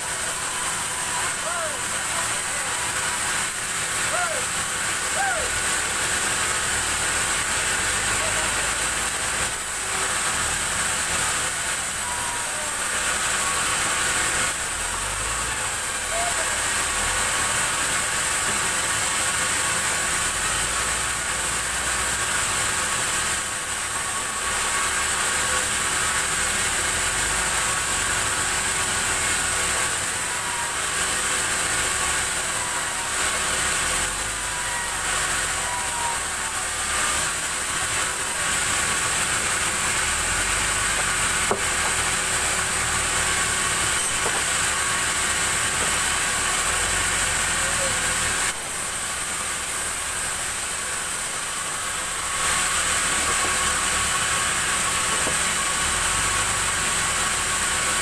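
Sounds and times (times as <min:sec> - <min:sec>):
band sawmill humming and hissing: 0:00.0 - 0:58.0.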